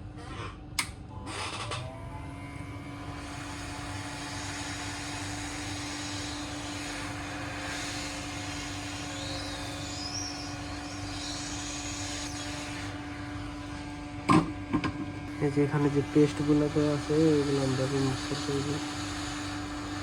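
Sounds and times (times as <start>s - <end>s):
hot air station whirring hiss: 2.6s - 20.0s.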